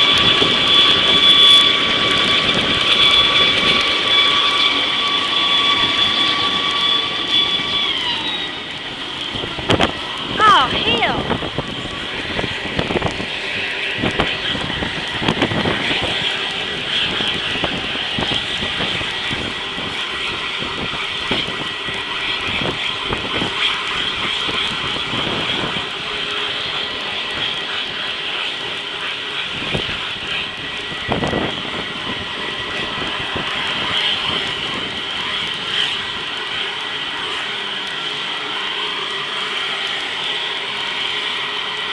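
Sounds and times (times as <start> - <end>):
helicopter rotor noise: 0.0 - 41.9
helicopter turbine whine: 0.0 - 41.9.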